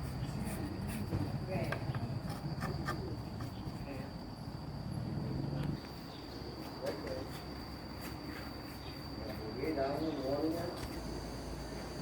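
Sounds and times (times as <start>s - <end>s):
crickets singing: 0.0s - 12.0s.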